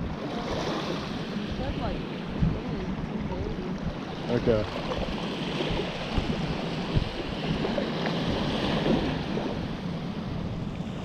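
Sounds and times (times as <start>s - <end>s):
waves washing in: 0.0s - 11.0s
wind buffeting microphone: 0.0s - 11.0s.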